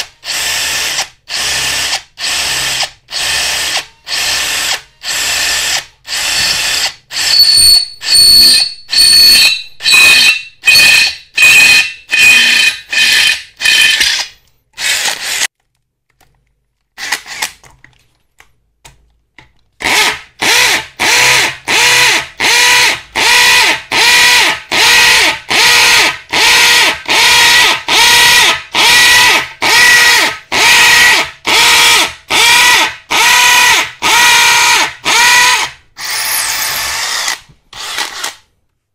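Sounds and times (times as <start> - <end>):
drill into concrete block: 0.0 - 15.5, 19.8 - 38.5
drill boring into steel: 0.2 - 15.5, 19.8 - 38.4.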